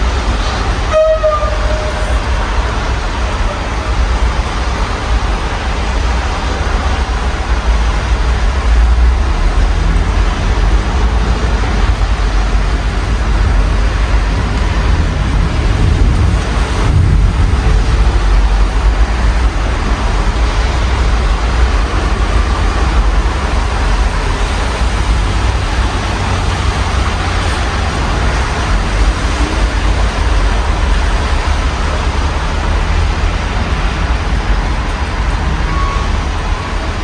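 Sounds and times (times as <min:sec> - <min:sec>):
rain on street: 0:00.0 - 0:37.0
road traffic rumble: 0:00.0 - 0:37.0.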